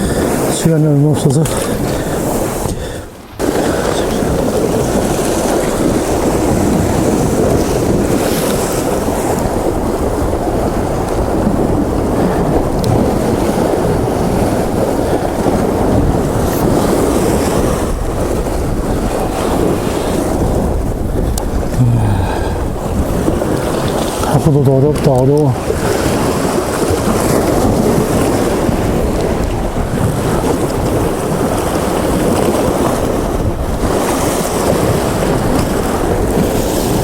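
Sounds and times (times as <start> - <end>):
sea swell washing against rocks: 0.0 - 37.0
wind buffeting microphone: 0.0 - 37.0.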